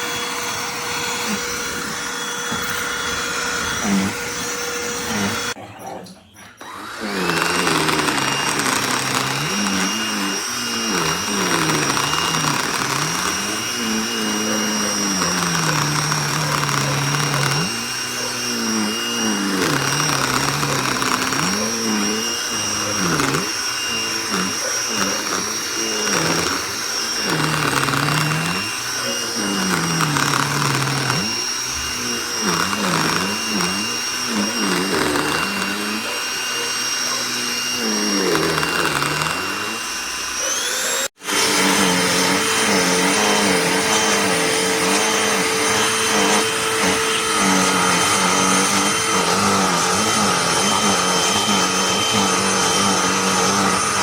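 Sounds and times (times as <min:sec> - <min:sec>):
handheld vacuum running: 0:00.0 - 0:05.6, 0:06.6 - 0:54.0.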